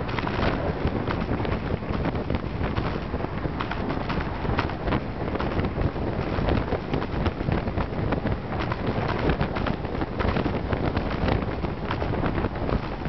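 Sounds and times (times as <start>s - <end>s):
crackles and clicks: 0.0s - 13.0s
wind rushing over microphone: 0.0s - 13.0s.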